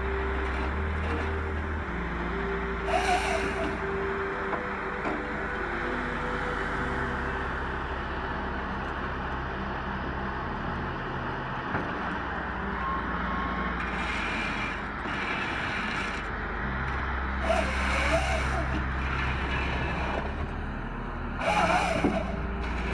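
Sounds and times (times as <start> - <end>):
heavy machine engine running: 0.0 - 22.9.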